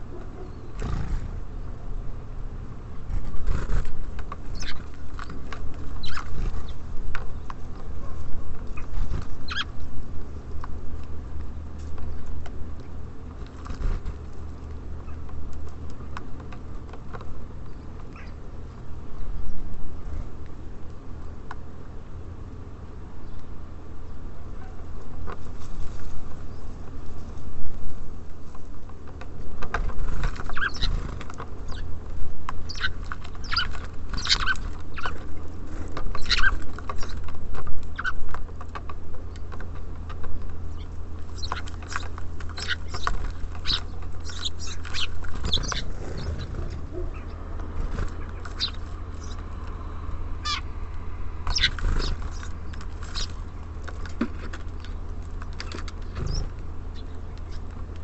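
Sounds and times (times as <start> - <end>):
small songbirds chirping: 0.0 - 2.4, 3.2 - 20.4, 29.3 - 58.0.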